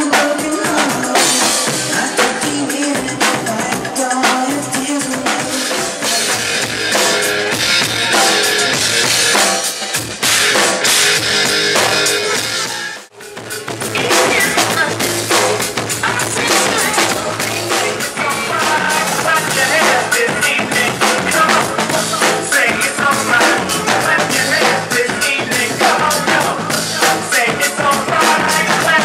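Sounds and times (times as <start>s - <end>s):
drum kit playing: 0.0s - 29.0s
loud dance music: 0.0s - 29.0s.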